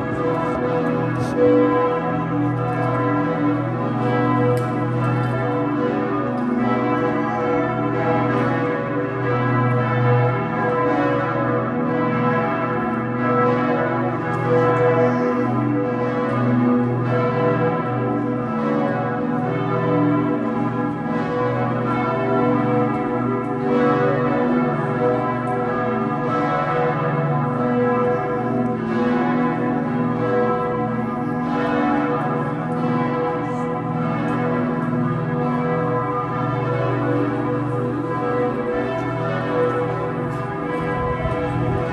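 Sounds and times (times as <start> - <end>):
church bells pealing: 0.0 - 41.9.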